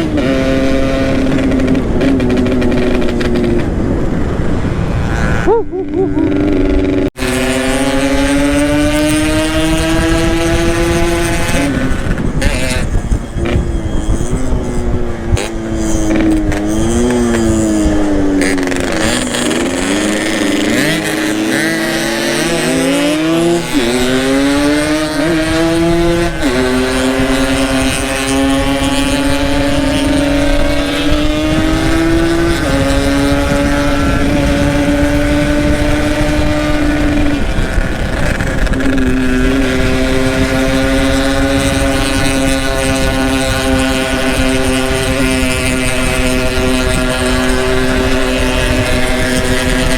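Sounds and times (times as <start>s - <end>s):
motorcycle engine running: 0.0s - 49.9s
second engine passing: 0.0s - 49.9s.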